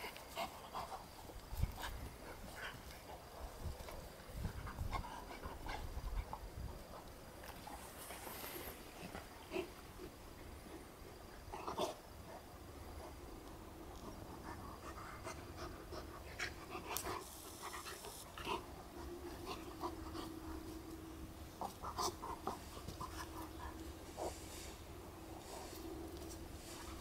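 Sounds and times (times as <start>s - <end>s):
dogs panting: 0.0s - 27.0s
dogs scuffling and mouthing: 0.0s - 27.0s.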